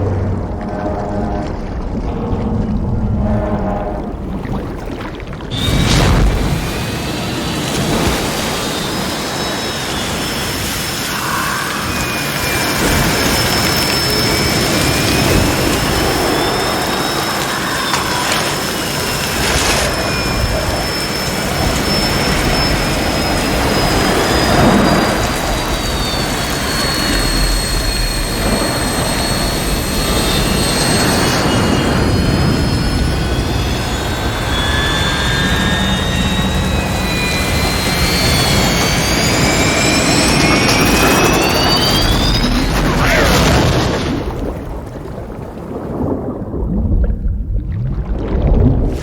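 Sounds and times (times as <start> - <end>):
turbine whines gliding: 0.0 - 44.8
jet engine roar: 0.0 - 47.2.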